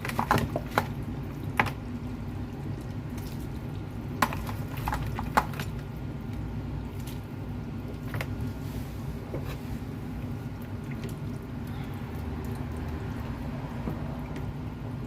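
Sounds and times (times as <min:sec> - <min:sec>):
soup bubbling: 0:00.0 - 0:15.0.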